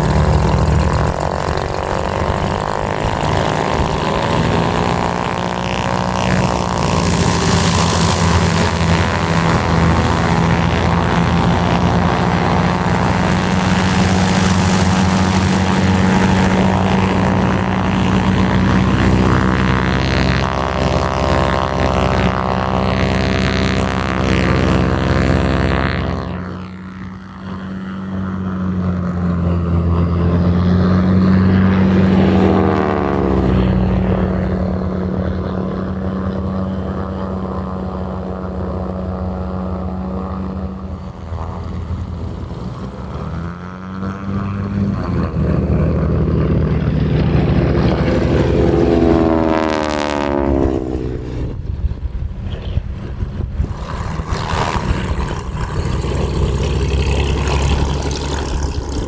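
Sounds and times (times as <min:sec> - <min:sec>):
propeller aircraft engine: 0:00.0 - 0:59.0.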